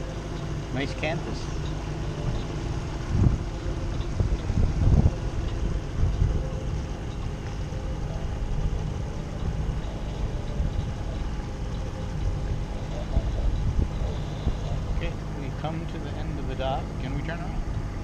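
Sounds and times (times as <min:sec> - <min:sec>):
small outboard motor running: 0:00.0 - 0:18.0.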